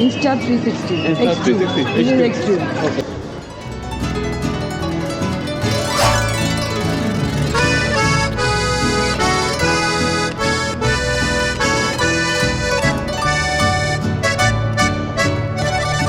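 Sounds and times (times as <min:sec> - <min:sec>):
instrumental music: 0:03.0 - 0:16.0.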